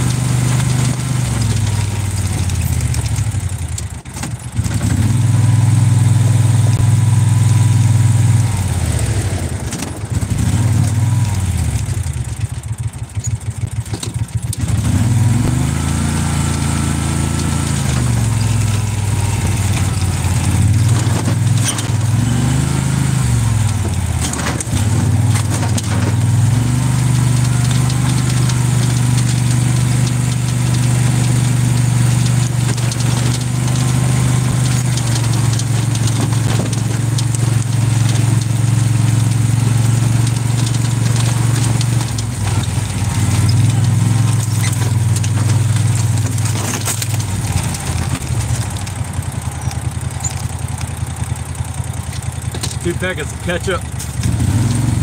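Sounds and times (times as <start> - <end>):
vehicle engine drone: 0.0 - 55.0
vehicle rattles: 0.0 - 55.0.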